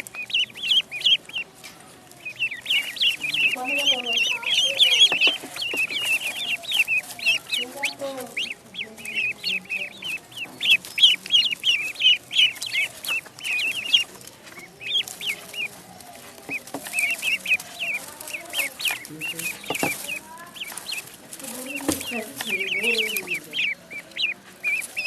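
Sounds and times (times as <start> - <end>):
fainter lower calls: 0.0 - 1.6, 2.2 - 25.0
ducklings peeping: 0.0 - 25.0.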